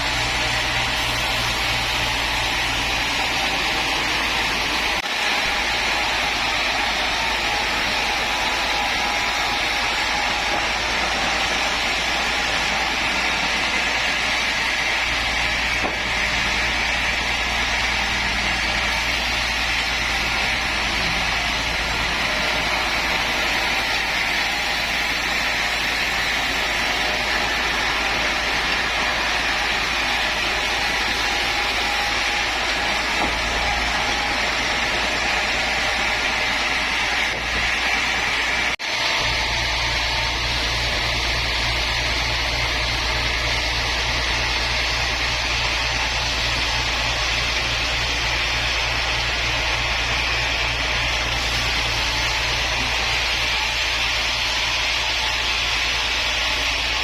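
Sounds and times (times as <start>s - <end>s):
woodworking machinery whirring: 0.0s - 57.0s.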